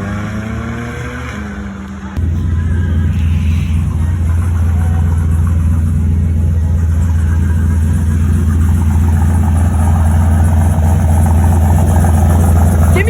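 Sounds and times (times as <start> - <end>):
car engine idling: 1.6 - 13.0.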